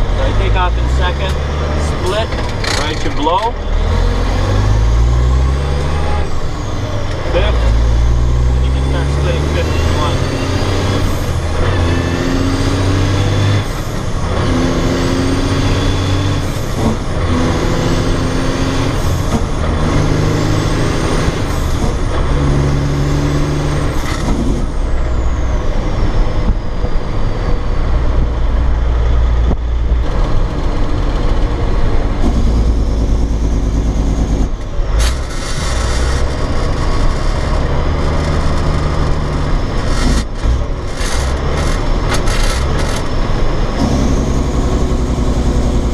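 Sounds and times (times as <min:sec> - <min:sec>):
high transmission whine: 0:00.0 - 0:45.9
truck diesel engine shifting gears: 0:00.0 - 0:45.9.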